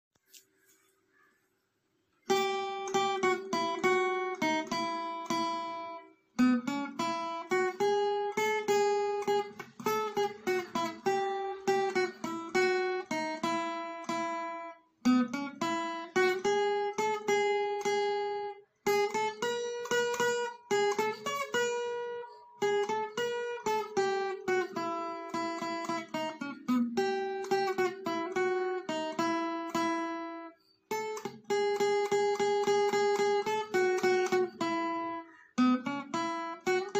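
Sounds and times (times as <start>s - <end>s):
acoustic guitar plucking melody: 2.2s - 36.9s.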